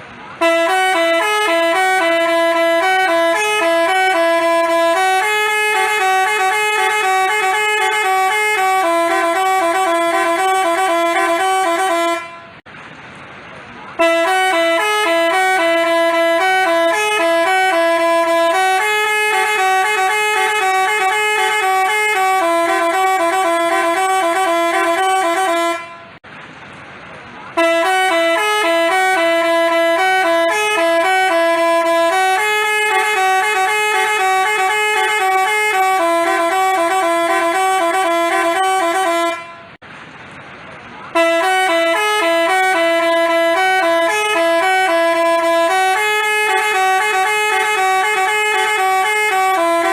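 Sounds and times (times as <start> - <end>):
multi-tone bus horn melody: 0.0 - 12.7, 13.9 - 26.2, 27.5 - 39.8, 41.1 - 49.9.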